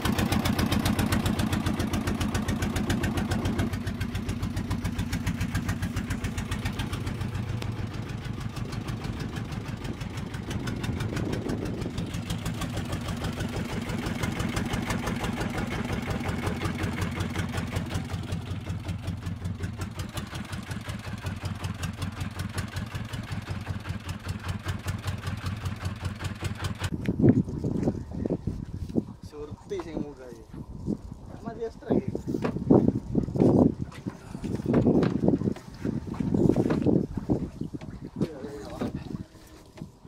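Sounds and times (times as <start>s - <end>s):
boat engine droning: 0.0s - 26.9s, 32.9s - 40.0s.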